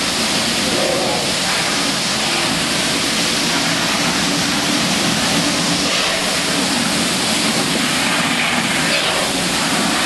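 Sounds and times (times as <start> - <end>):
water fountain jets spraying: 0.0 - 10.0.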